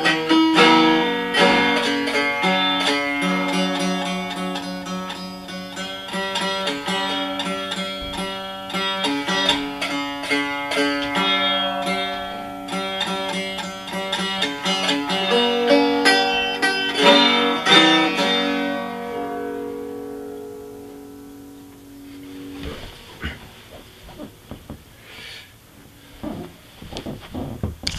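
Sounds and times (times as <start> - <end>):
banjo plucked notes: 0.0 - 26.8.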